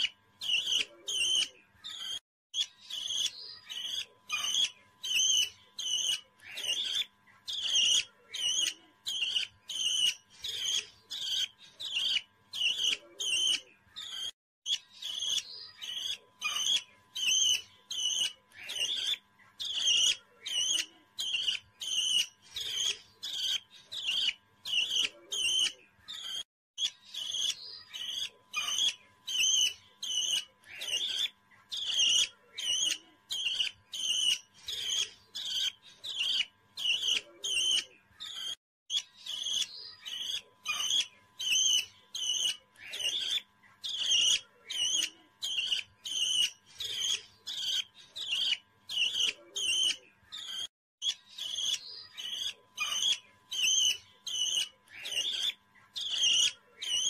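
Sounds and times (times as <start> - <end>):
parrot chirping: 0.0 - 57.0.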